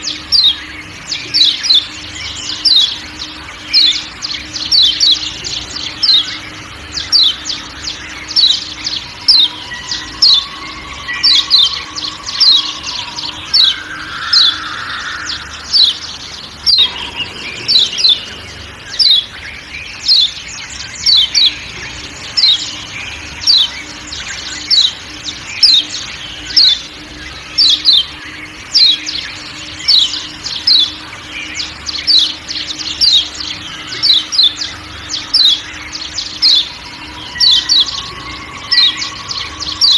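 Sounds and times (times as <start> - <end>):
faint forest background: 0.0 - 39.9.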